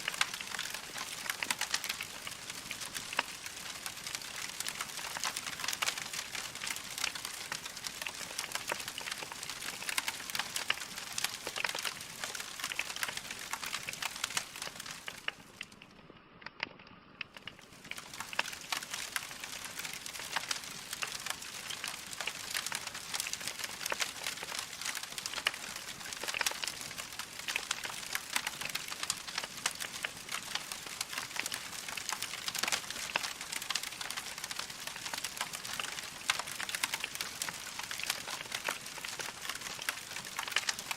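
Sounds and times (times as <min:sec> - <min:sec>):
log fire crackling: 0:00.0 - 0:16.6, 0:17.2 - 0:40.9.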